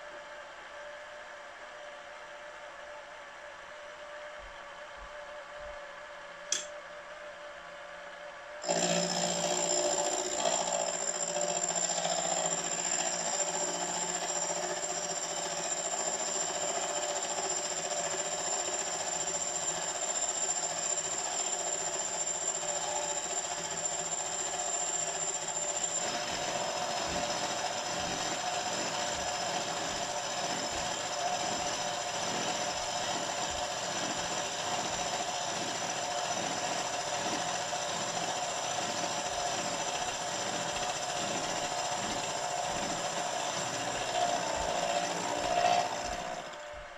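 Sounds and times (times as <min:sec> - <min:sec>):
cutter cutting metal: 0:08.6 - 0:46.9
milling machine motor running: 0:08.6 - 0:46.9.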